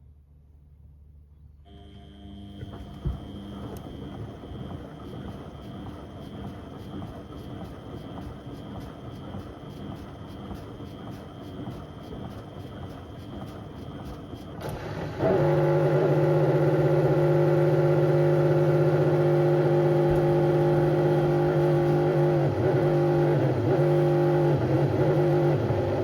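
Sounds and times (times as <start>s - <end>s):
washing machine motor whine: 1.6s - 26.0s.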